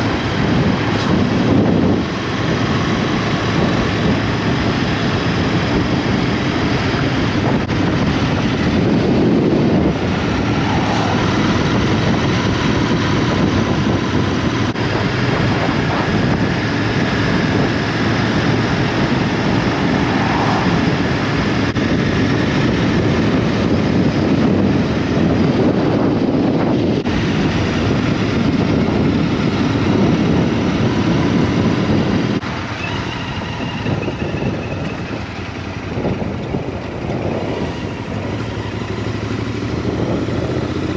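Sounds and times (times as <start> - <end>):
motorbike engine: 0.0 - 40.9
wind buffeting microphone: 0.0 - 40.9.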